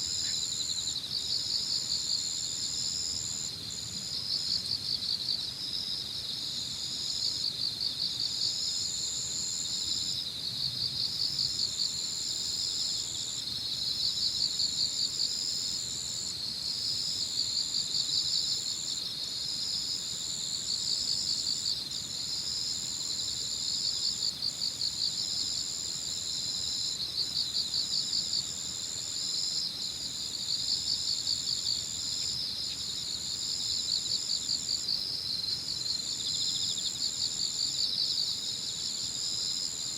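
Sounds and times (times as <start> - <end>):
insect fast pulsing chirp: 0.0 - 39.9
insect high steady trill: 0.0 - 39.9.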